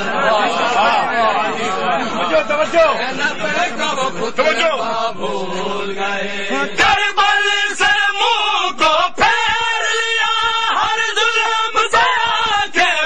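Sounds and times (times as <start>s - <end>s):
men chanting a mourning lament: 0.0s - 13.0s.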